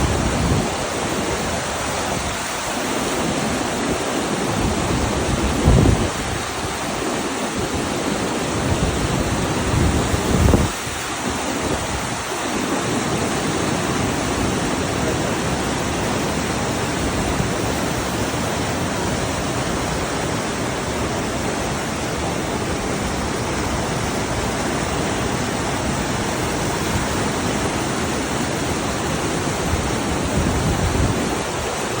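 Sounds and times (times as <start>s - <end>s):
river water rushing over rocks: 0.0s - 32.0s.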